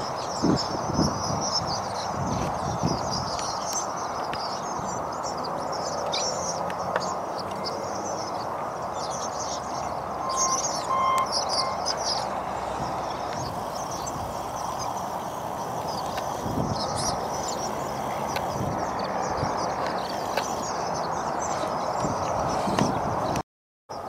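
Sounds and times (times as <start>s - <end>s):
swallows twittering: 0.0s - 24.0s.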